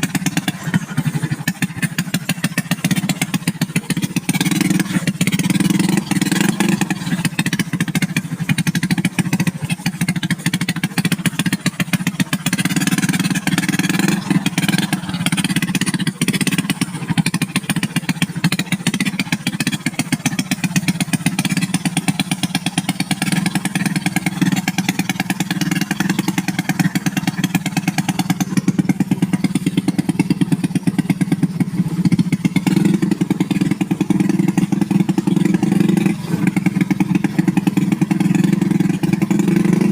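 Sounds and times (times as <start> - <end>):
small motorcycle engine running: 0.0 - 39.9.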